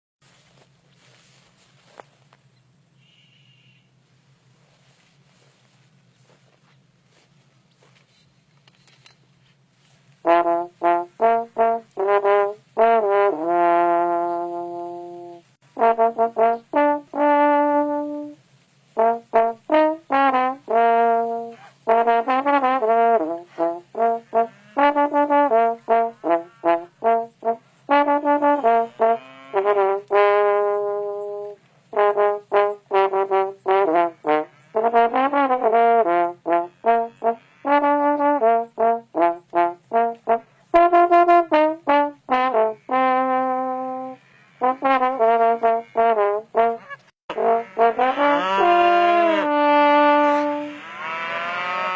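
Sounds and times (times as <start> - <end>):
brass instrument playing melody: 10.2 - 51.9.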